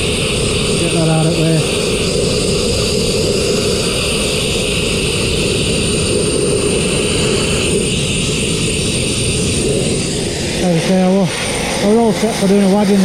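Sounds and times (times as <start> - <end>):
rushing air: 0.0 - 13.0
sandblasting machine drone: 0.0 - 13.0.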